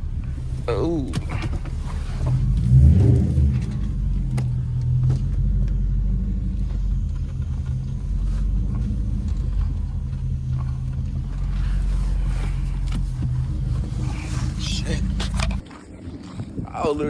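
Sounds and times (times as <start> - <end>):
car engine running at low revs: 0.0 - 17.0.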